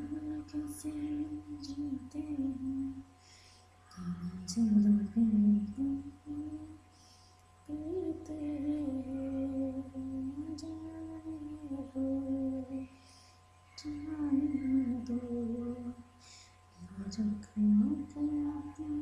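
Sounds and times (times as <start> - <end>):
woman humming a slow tune: 0.0 - 3.0, 3.9 - 6.8, 7.7 - 13.0, 13.7 - 16.1, 16.8 - 19.0
steady low hum: 0.0 - 19.0.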